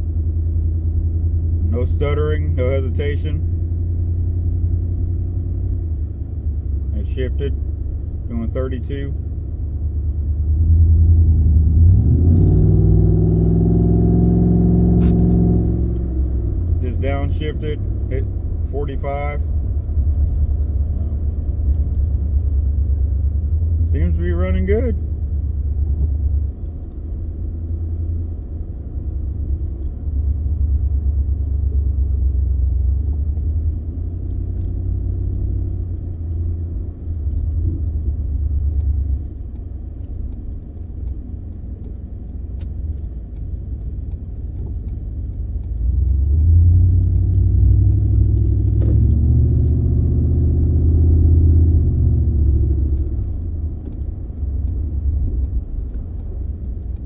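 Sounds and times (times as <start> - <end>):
car engine running while driving: 0.0 - 57.0
low road rumble: 0.0 - 57.0.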